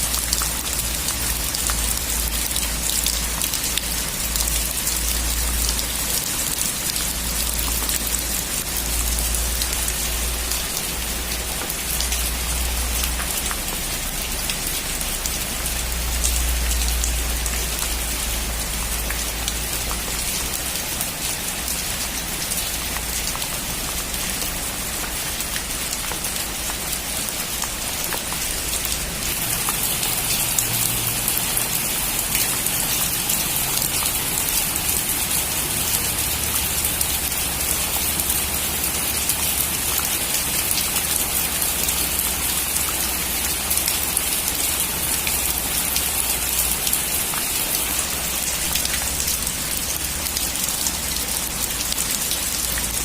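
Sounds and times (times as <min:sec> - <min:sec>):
heavy rain on metal roof: 0:00.0 - 0:53.0.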